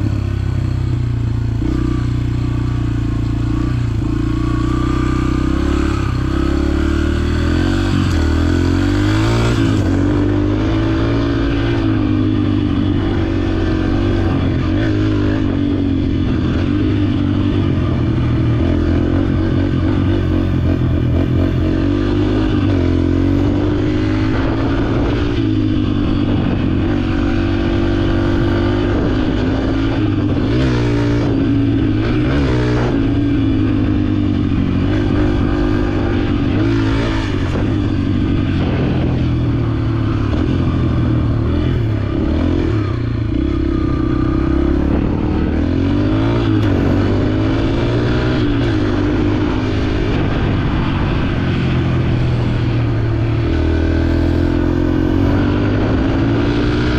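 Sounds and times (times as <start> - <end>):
dirt bike engine revving: 1.5 - 56.9.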